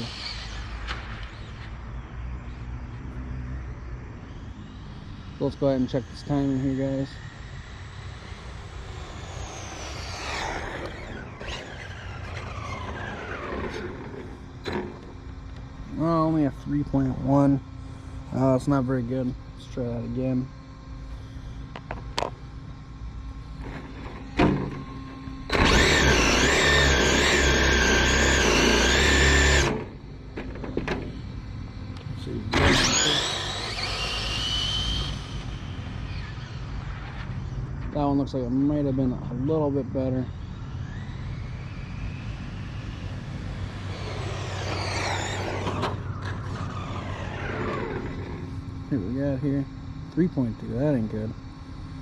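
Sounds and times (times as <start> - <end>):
electric motor whining: 0.0 - 20.2, 21.0 - 37.8, 39.7 - 52.0
steady low hum: 0.0 - 52.0.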